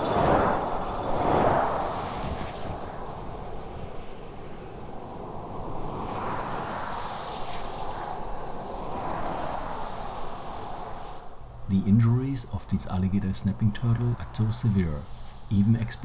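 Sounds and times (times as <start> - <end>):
insects chirring: 0.0 - 16.0
vehicles passing on highway: 0.0 - 16.0.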